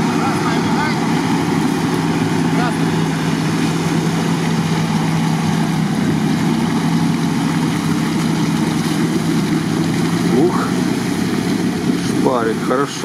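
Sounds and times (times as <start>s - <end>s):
engine running at low pitch: 0.0s - 13.0s
tyres churning through water and mud: 0.0s - 13.0s.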